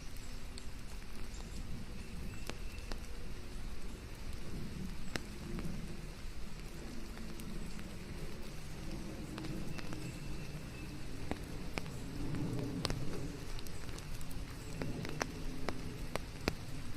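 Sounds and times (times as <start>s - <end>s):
single raindrops ticking: 0.0s - 16.9s
steady rain hiss: 0.0s - 16.9s.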